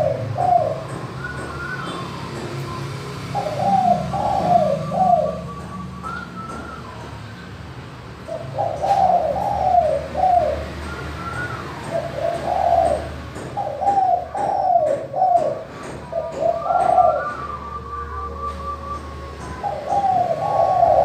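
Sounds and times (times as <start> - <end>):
dove cooing: 0.0 - 7.1, 8.2 - 21.0.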